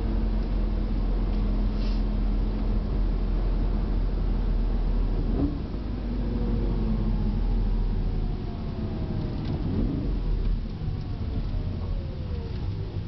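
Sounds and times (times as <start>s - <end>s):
low road rumble: 0.0s - 13.0s.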